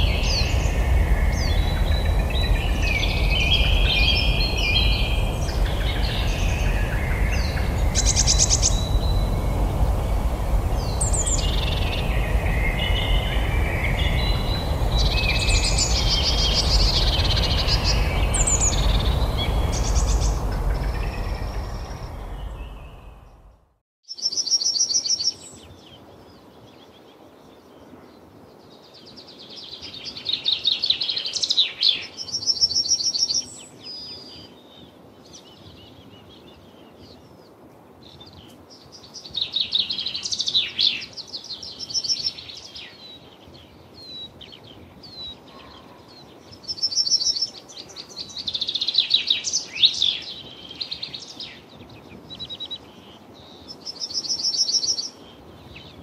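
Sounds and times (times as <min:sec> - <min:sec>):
birds trilling and warbling: 0:00.0 - 0:23.6, 0:34.4 - 0:56.0
faint steady hiss: 0:00.0 - 0:56.0.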